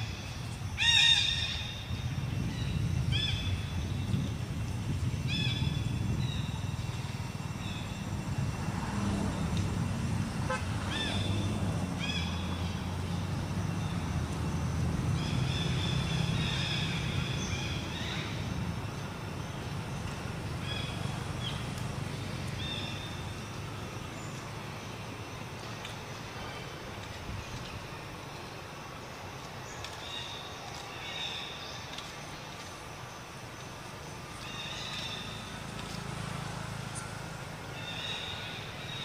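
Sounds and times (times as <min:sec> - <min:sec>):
engine rumbling: 0:00.0 - 0:31.2, 0:31.8 - 0:39.0.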